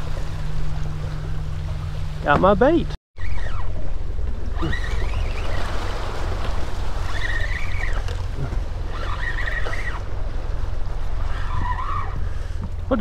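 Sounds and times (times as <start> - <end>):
boat engine rumble: 0.0 - 13.0
water noise: 0.0 - 13.0.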